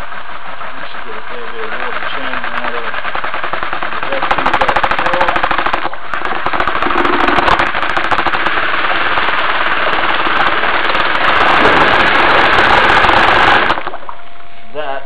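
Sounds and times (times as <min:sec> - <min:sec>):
drill motor rattling clatter: 0:00.0 - 0:14.0
water churning: 0:00.0 - 0:14.3.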